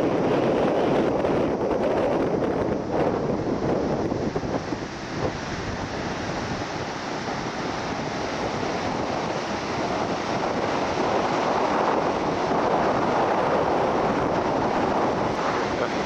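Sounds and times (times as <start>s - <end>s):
surf breaking on a beach: 0.0s - 16.0s
wind buffeting the microphone: 0.0s - 16.0s.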